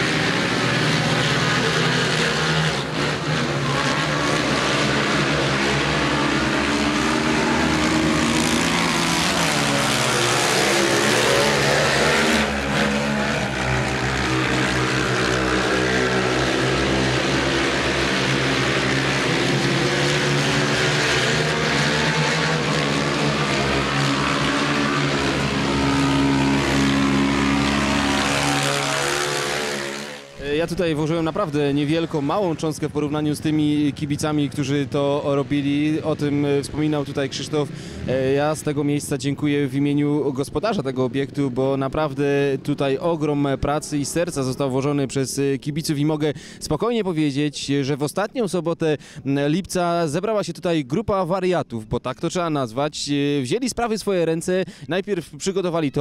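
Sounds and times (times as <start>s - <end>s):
quad bike engines racing: 0.0s - 47.5s.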